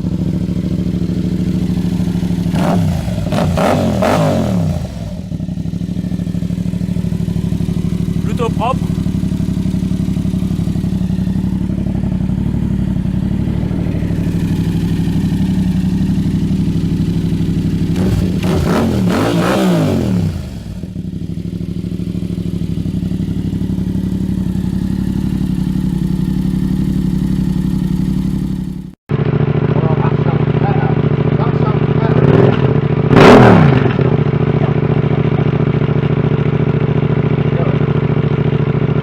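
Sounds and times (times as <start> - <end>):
motorcycle engine idling and revving: 0.0 - 39.0.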